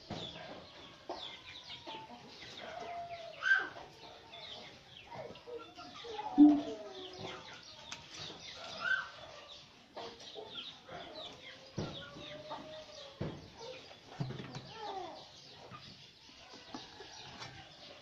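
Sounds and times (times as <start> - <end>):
chickens clucking: 0.0 - 18.0
small birds chirping: 0.0 - 18.0.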